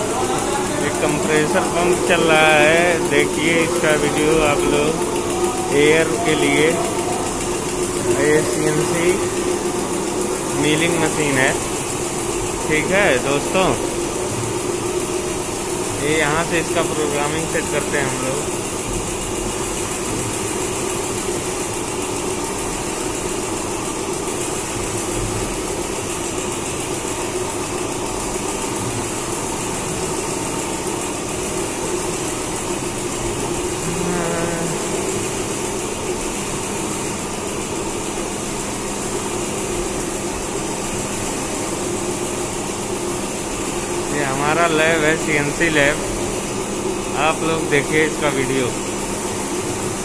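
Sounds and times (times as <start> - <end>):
air compressor running: 0.0 - 50.0.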